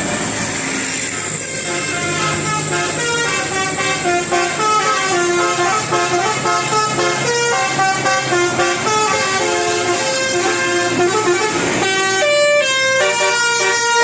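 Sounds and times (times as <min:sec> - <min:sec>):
musical bus horn melody: 0:01.5 - 0:14.0.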